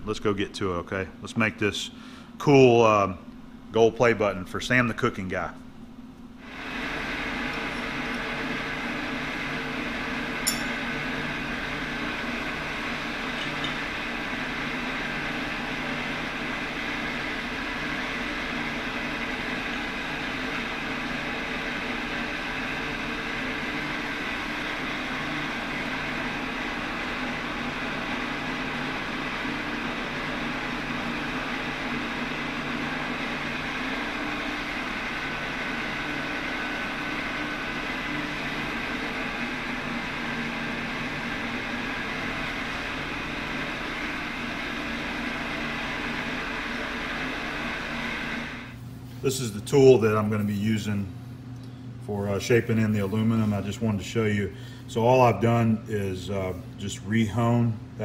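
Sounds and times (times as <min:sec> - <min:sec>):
machinery humming: 0:00.0 - 0:58.0.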